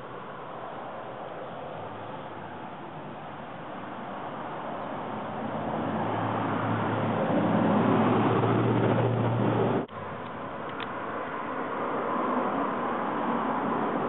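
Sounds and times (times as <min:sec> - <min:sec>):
rushing noise: 0:00.0 - 0:14.0
vehicle engine humming: 0:00.0 - 0:14.0.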